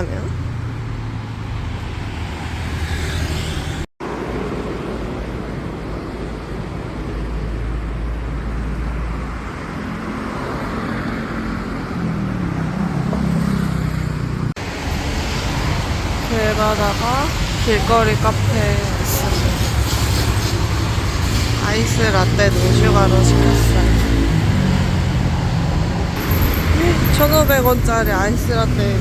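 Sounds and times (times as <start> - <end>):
passing vehicle engines: 0.0 - 29.0
road noise: 0.0 - 29.0.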